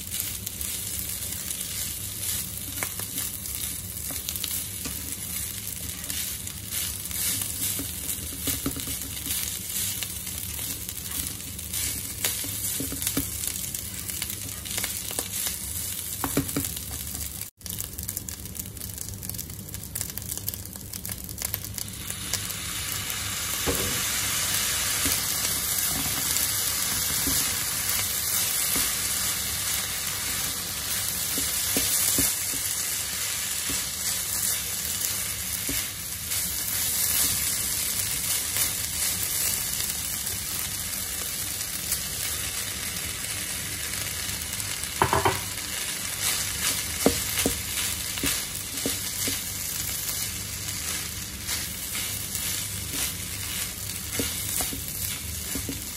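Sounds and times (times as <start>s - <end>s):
rice sizzling in a pan: 0.0s - 55.9s.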